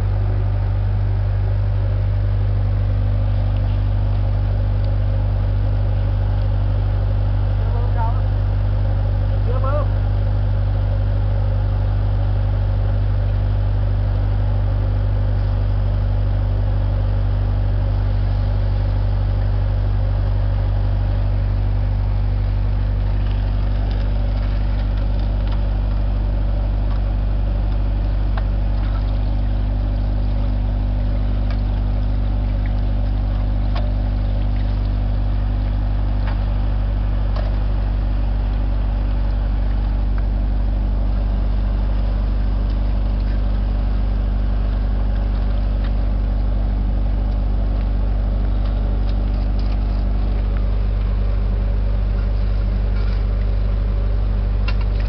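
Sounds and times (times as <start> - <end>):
drilling rig engine humming: 0.0 - 55.0.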